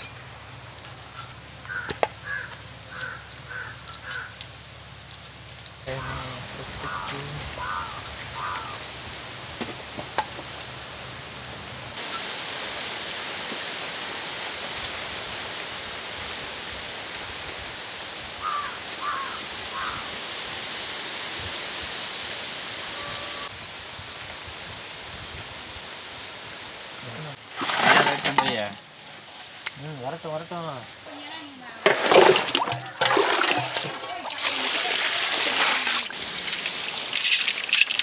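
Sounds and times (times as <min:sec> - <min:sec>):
steady outdoor hiss: 0:00.0 - 0:38.0.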